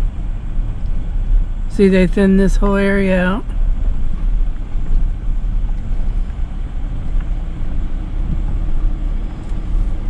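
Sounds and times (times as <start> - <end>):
pickup engine and tyre rumble: 0.0 - 10.0.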